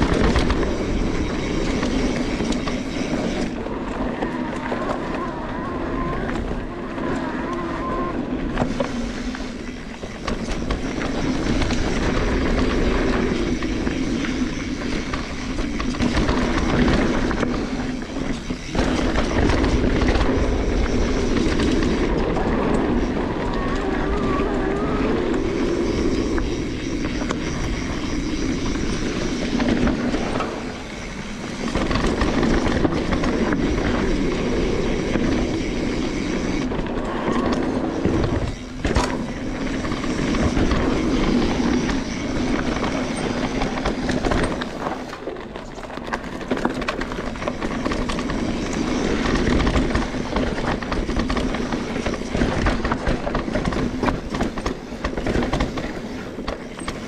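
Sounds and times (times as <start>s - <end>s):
bike rattling: 0.0s - 57.0s
bike tyres on dirt: 0.0s - 57.0s.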